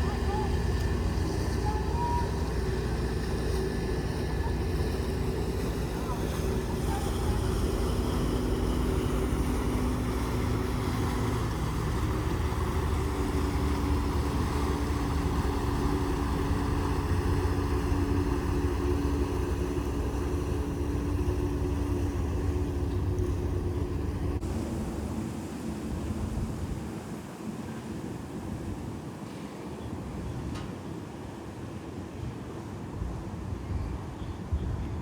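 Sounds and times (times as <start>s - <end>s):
low engine drone: 0.0s - 29.0s
constant hum: 0.0s - 35.0s.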